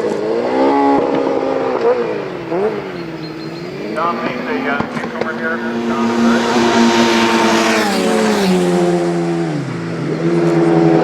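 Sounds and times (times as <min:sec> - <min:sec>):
motorcycle engine passing by: 0:00.4 - 0:11.0.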